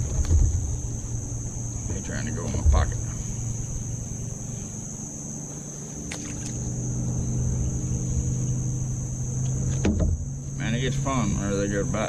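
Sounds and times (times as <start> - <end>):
boat motor humming: 0.0 - 12.0
insects droning: 0.0 - 12.0.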